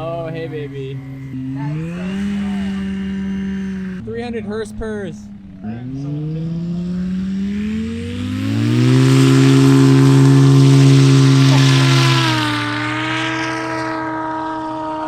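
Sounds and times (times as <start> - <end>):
propeller plane engine drone: 0.0 - 15.0
propeller rush: 0.0 - 15.0.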